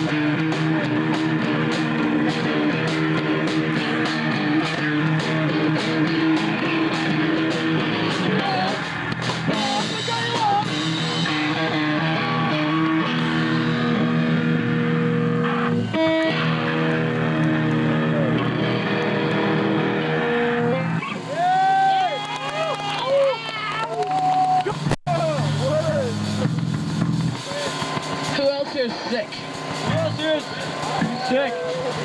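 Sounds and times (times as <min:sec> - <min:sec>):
electric guitar chords: 0:00.0 - 0:21.5, 0:24.6 - 0:32.0
drum kit: 0:00.0 - 0:22.1, 0:24.2 - 0:32.0.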